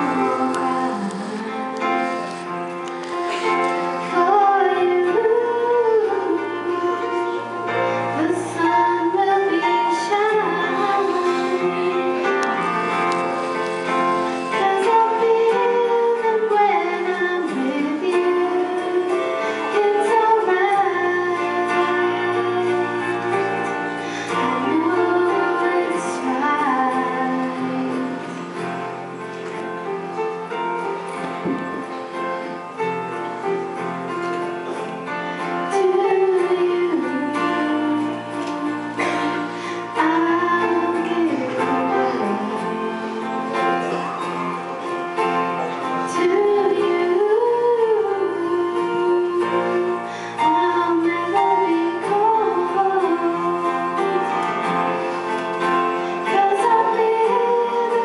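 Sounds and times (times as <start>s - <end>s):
girl singing a slow ballad: 0.0s - 2.4s, 3.3s - 28.9s, 35.7s - 44.8s, 45.9s - 58.0s
instrumental accompaniment: 0.0s - 58.0s.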